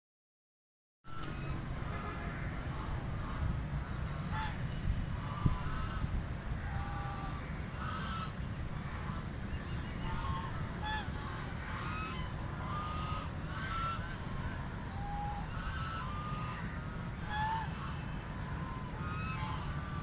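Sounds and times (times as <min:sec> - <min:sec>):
ducks quacking: 0:01.1 - 0:20.0.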